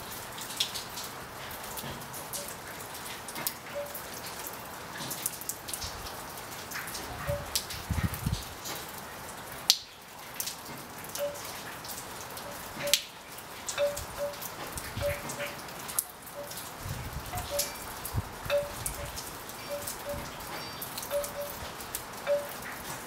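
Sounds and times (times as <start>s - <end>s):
rain falling: 0.0s - 23.0s
raindrops ticking: 0.0s - 23.0s
water dripping plinks: 0.1s - 23.0s.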